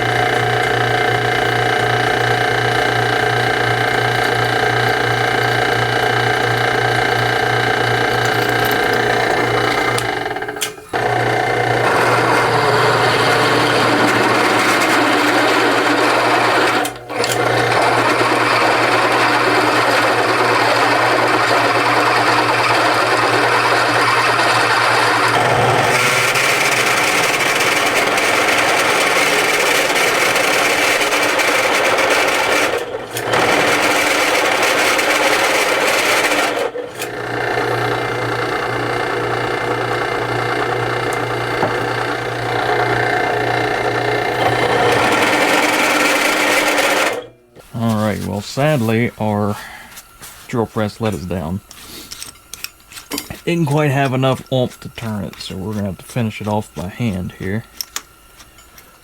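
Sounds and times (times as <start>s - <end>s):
drill bit grinding into steel: 0.0s - 47.4s
motor hum: 0.0s - 59.0s.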